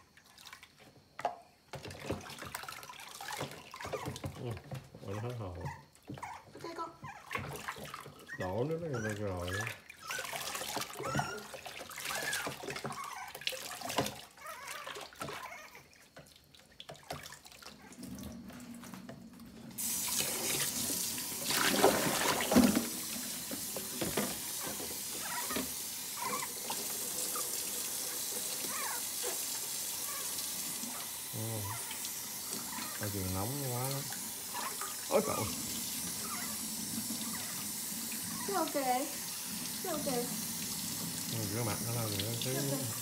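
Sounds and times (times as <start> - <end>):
faucet water running: 0.0 - 5.5, 6.4 - 43.0
water splashing in sink: 0.0 - 43.0.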